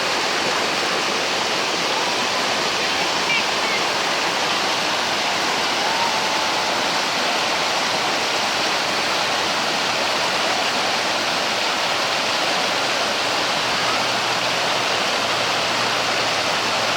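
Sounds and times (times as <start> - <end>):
creek water rushing: 0.0 - 16.9.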